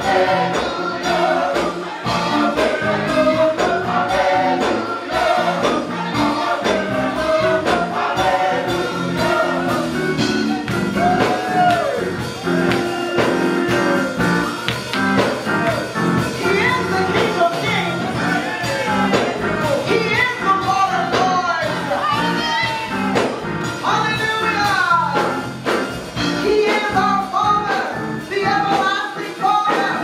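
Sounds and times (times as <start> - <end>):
gospel choir singing: 0.0 - 30.0
instrumental accompaniment: 0.0 - 30.0.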